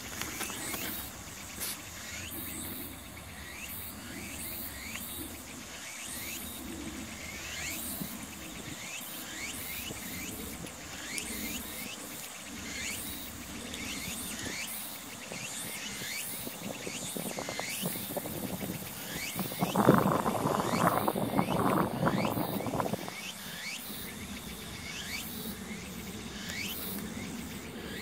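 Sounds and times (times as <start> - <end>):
insects buzzing and chirping: 0.0 - 28.0.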